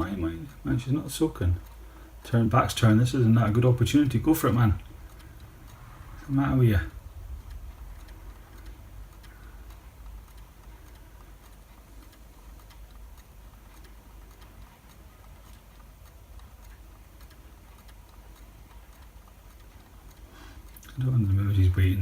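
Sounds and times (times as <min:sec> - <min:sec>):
faint irregular ticks: 0:00.0 - 0:22.0
low steady rumble: 0:00.0 - 0:22.0.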